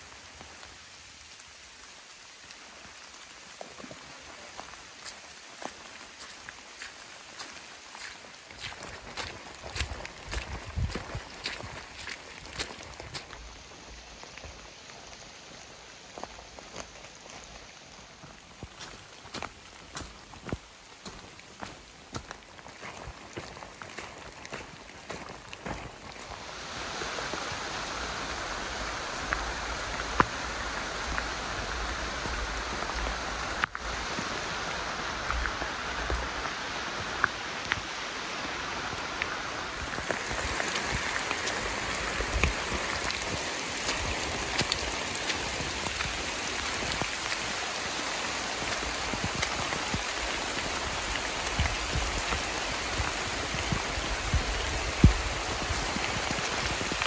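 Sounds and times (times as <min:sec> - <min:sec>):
rain drops hitting a jacket: 0:00.0 - 0:57.0
rain falling on forest: 0:00.0 - 0:57.0.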